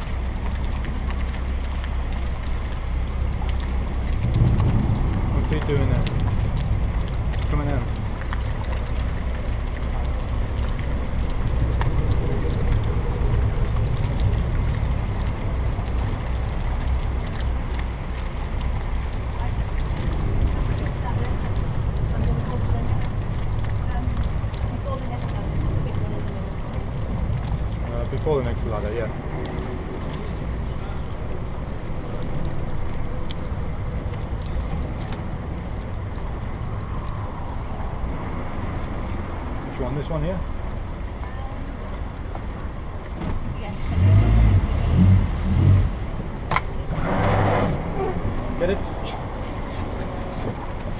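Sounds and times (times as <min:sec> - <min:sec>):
boat motor rumbling: 0:00.0 - 0:50.9
wind buffeting microphone: 0:00.0 - 0:50.9.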